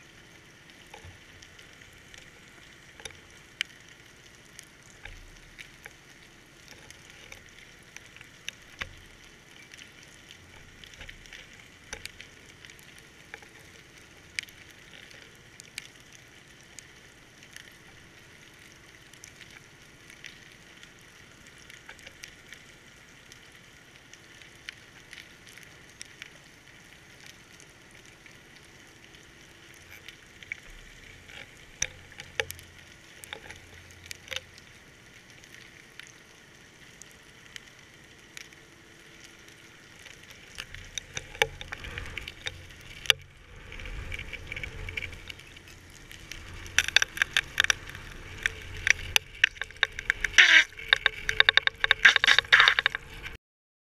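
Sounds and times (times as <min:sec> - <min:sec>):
faint steady hiss: 0:00.0 - 0:53.4
sharp crackling clicks underwater: 0:00.0 - 0:53.4.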